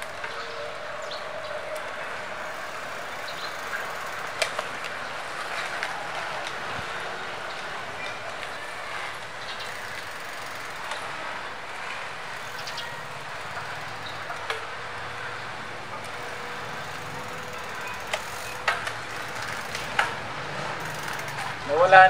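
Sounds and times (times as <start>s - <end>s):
bicycle rolling on concrete: 0.0s - 22.0s.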